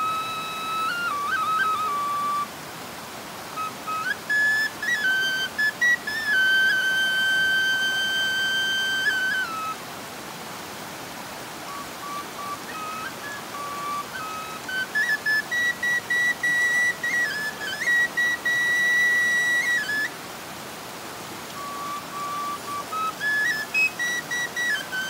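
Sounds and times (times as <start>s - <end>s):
solo flute: 0.0s - 2.6s, 3.5s - 9.9s, 11.6s - 20.3s, 21.4s - 25.0s.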